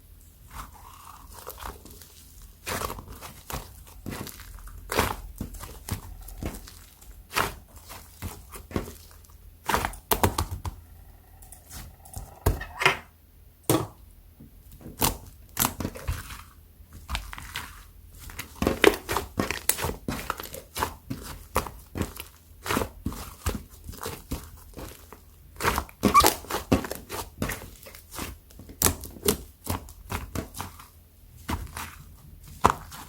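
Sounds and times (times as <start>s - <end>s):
hands squishing sticky slime: 0.3s - 12.5s, 15.0s - 33.0s.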